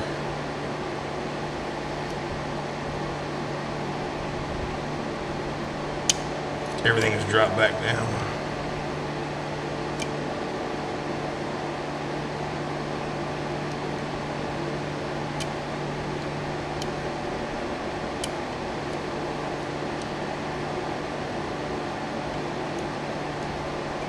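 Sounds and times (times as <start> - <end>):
fan-like hum and hiss: 0.0 - 24.0.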